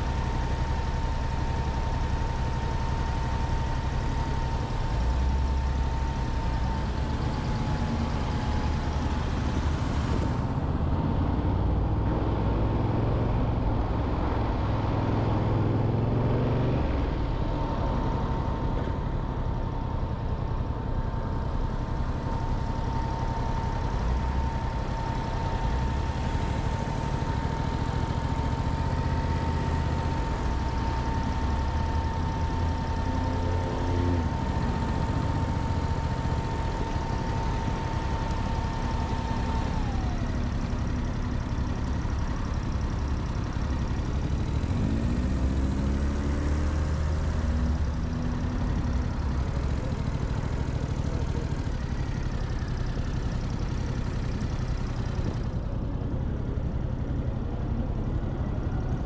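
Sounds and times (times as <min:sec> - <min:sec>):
motorcycle engine rumbling: 0:05.7 - 0:59.0.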